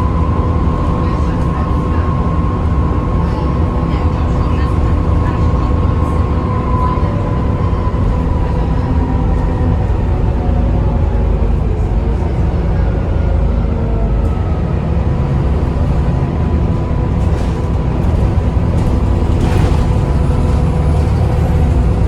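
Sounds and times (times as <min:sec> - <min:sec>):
bus engine rumble: 0:00.0 - 0:22.0.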